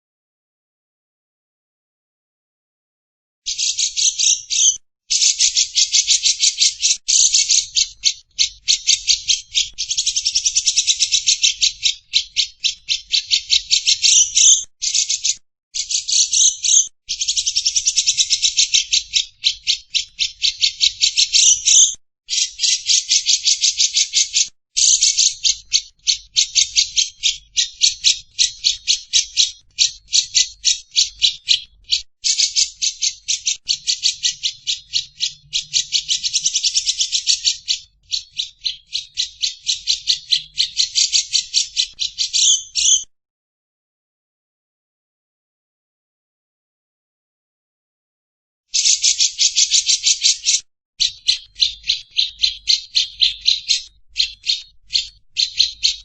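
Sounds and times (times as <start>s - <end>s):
bird chattering trill: 3.5s - 43.1s, 48.8s - 56.0s.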